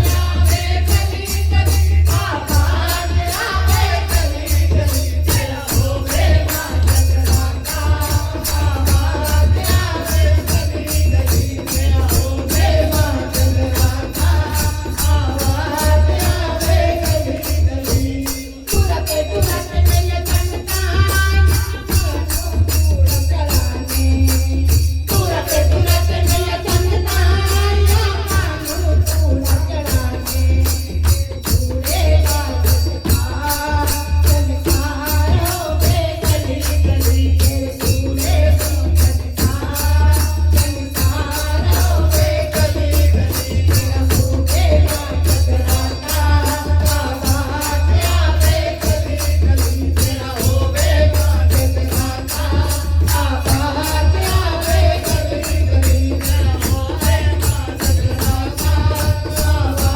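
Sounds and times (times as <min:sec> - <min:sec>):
devotional singing: 0:00.0 - 0:59.9
tambourine jingles: 0:00.0 - 0:59.9.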